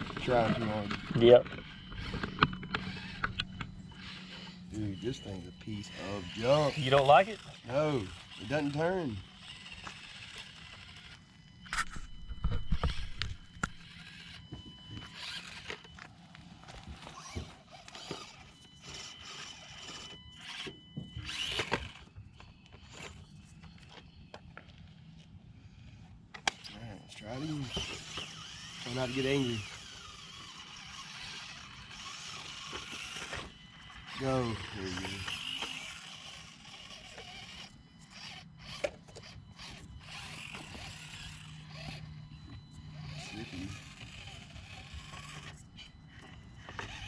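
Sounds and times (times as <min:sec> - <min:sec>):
toy truck knocking and scraping: 0:00.0 - 0:25.0, 0:27.4 - 0:47.0
small electric motor whining: 0:00.0 - 0:47.0.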